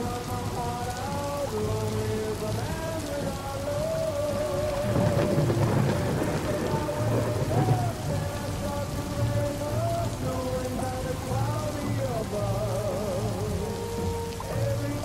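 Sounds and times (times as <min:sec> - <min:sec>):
low rumble of thunder: 0:00.0 - 0:13.8
instrumental pop ballad melody: 0:00.0 - 0:15.0
steady rain: 0:00.0 - 0:15.0.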